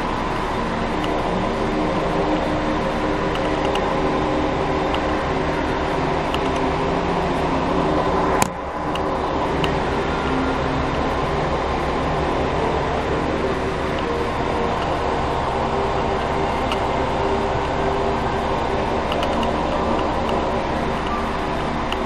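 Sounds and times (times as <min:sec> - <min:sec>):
diesel engine idling: 0:00.0 - 0:22.0
steady tones: 0:00.0 - 0:22.0.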